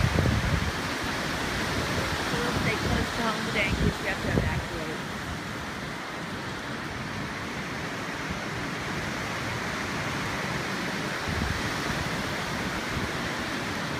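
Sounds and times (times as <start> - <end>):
strong wind through trees: 0.0 - 13.9
wind buffeting microphone: 0.0 - 13.9.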